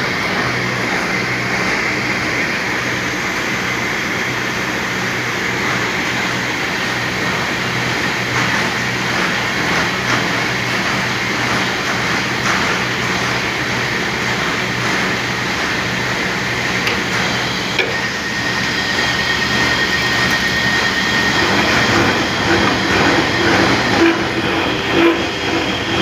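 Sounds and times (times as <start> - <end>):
roller machines running: 0.0 - 26.0.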